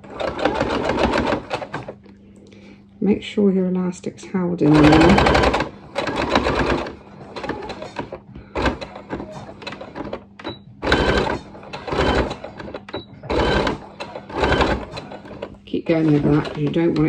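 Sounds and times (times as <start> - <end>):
sewing machine stitching: 0.0 - 2.0, 4.7 - 17.0.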